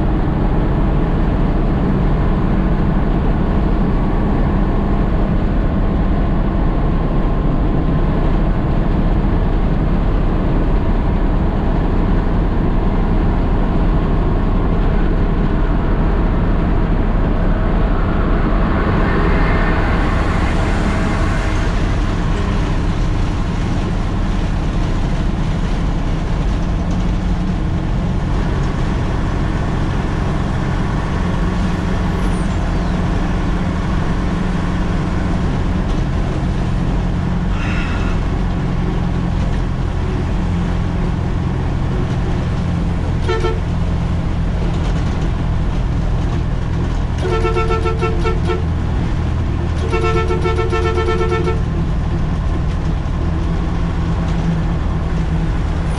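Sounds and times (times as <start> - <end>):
road noise: 0.0 - 55.9
truck diesel engine running: 0.0 - 55.9.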